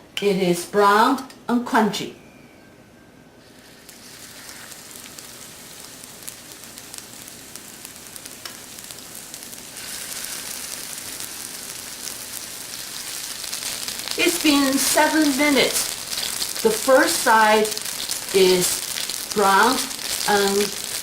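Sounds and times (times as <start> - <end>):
small oil crackles: 3.5 - 21.0
chicken frying in hot oil: 3.6 - 21.0.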